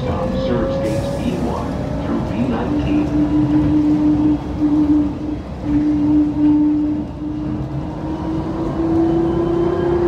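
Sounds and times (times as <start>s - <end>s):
train motor whine: 0.0s - 10.0s
train ride rumble: 0.0s - 10.0s.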